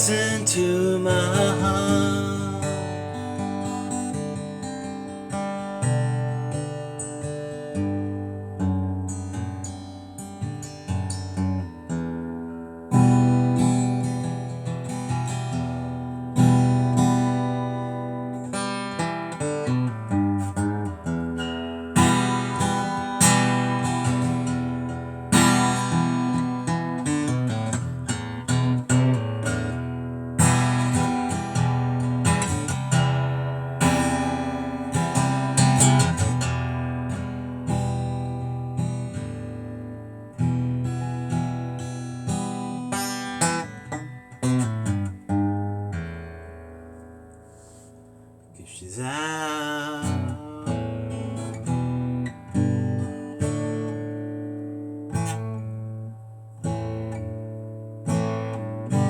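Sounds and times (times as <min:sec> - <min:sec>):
acoustic guitar chords: 0:00.0 - 0:59.0.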